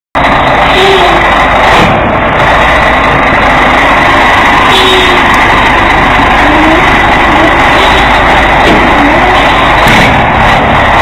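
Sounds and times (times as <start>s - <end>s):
diesel truck engine running: 0.2s - 11.0s.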